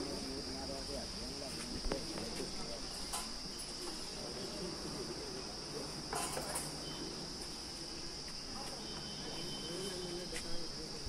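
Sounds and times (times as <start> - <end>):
faint distant voices: 0.0 - 11.0
insects chirring: 0.0 - 11.0.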